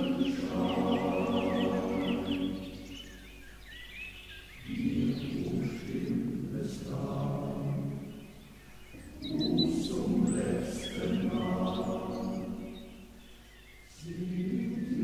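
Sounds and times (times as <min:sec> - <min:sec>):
choir singing: 0:00.0 - 0:03.2, 0:04.6 - 0:13.2, 0:13.9 - 0:15.0
bird chirps: 0:00.0 - 0:15.0.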